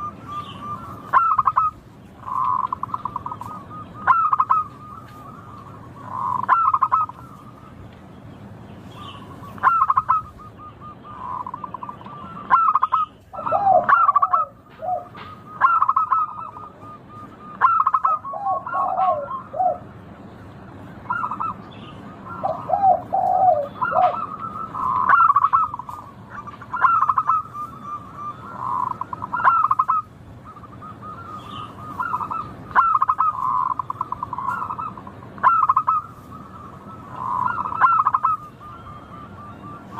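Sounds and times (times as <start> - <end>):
dove cooing: 0.0 - 7.8, 9.0 - 39.9.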